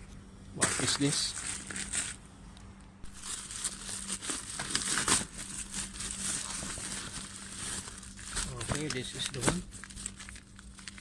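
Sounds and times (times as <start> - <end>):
plastic packaging crinkling: 0.6 - 2.2, 3.1 - 11.0.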